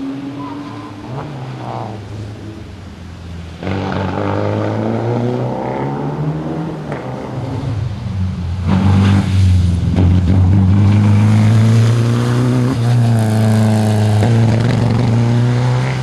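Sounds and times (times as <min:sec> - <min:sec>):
rally car engine at full throttle: 0:00.0 - 0:16.0.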